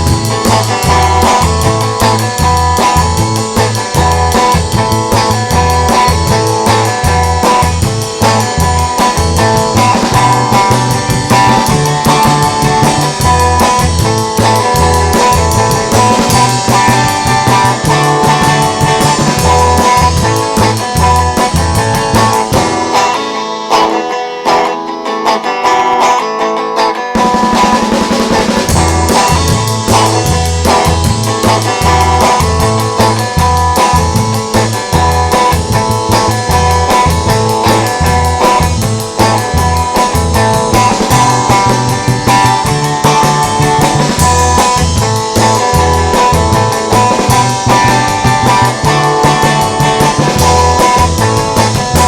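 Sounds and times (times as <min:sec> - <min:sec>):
low bass line: 0:00.0 - 0:22.9, 0:28.6 - 0:52.0
drum kit: 0:00.0 - 0:52.0
guitar: 0:00.0 - 0:52.0.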